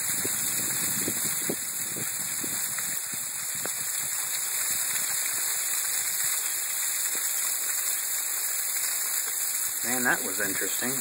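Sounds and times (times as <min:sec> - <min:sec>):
sleet and rain falling: 0:00.0 - 0:11.0.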